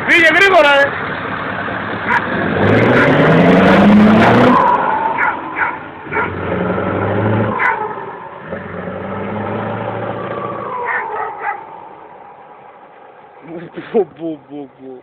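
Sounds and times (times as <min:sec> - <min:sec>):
diesel truck engine accelerating: 0:00.0 - 0:15.0.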